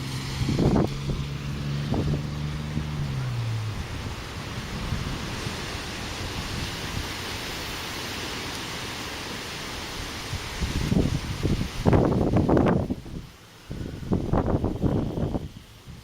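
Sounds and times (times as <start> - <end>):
wind buffeting microphone: 0.0 - 7.9, 9.8 - 16.0
gusty wind blowing: 0.0 - 16.0.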